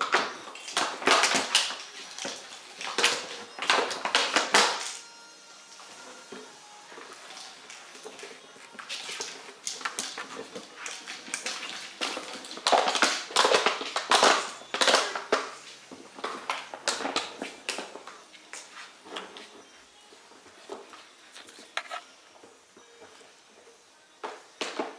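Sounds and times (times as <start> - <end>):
plastic bottle crackling: 0.0 - 5.0, 6.9 - 19.7, 20.4 - 22.6
puppies chewing plastic bottle: 0.0 - 5.0, 6.2 - 23.1.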